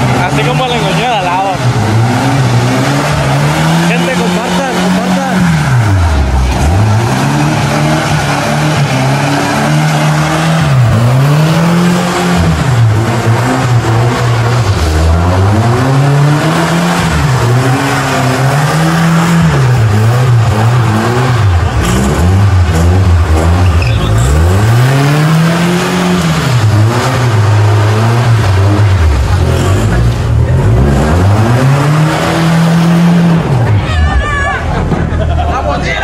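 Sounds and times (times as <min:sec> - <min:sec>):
truck engine revving: 0:00.0 - 0:36.0.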